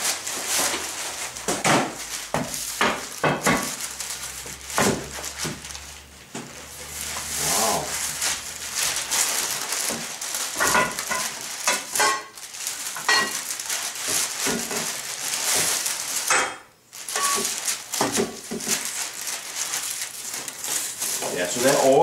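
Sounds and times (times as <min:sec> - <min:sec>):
plastic film crinkling: 0:00.0 - 0:22.0.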